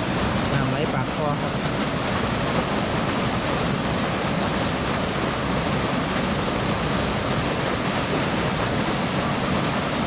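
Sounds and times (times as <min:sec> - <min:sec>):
water rushing from a pipe: 0:00.0 - 0:10.0.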